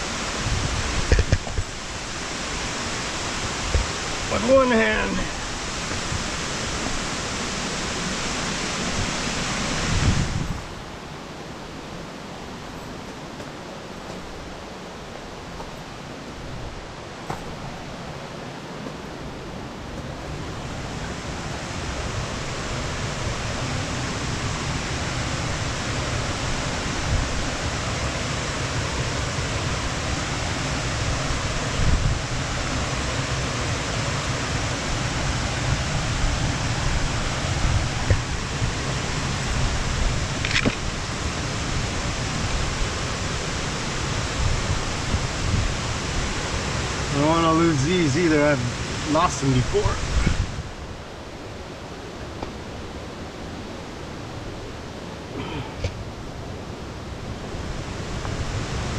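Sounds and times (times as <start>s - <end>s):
rush of falling water: 0.0s - 58.9s.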